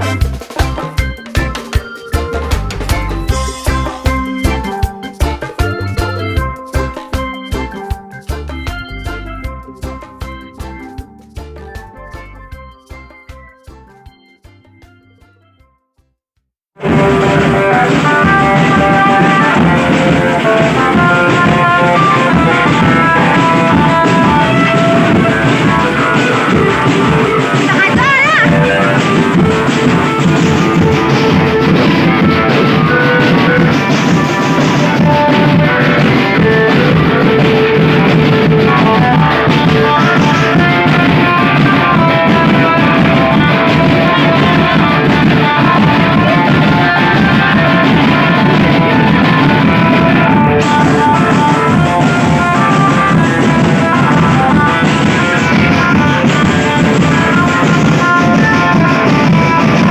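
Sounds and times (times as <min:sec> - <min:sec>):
rock music with guitar and drums: 0:00.0 - 0:15.4, 0:16.8 - 0:59.9.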